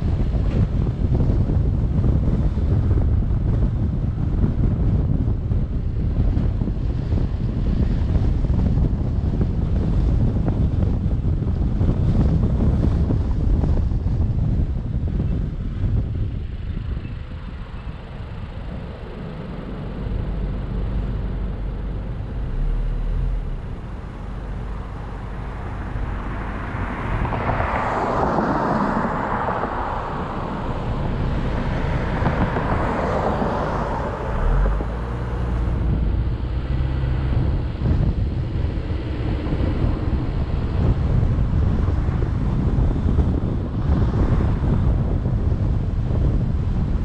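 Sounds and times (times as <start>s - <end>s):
car tyres and wind rumble: 0.0s - 47.0s.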